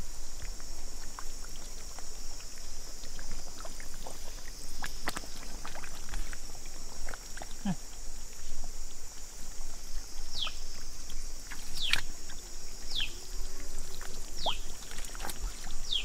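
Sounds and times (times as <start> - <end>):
insects buzzing: 0.0 - 16.0
muddy water sloshing: 0.0 - 16.0.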